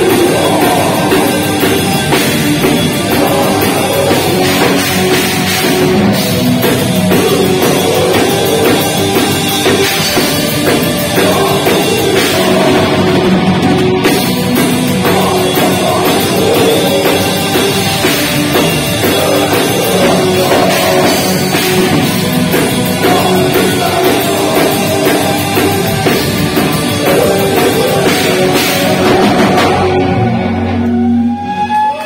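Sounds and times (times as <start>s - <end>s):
heavy metal band playing: 0.0s - 32.0s.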